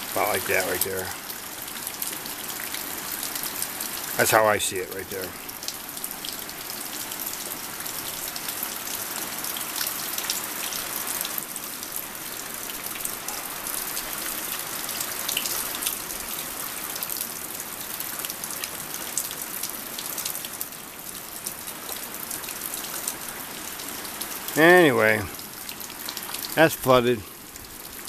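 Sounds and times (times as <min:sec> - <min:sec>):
floodwater rushing: 0:00.0 - 0:28.0
rain pattering: 0:00.0 - 0:28.0.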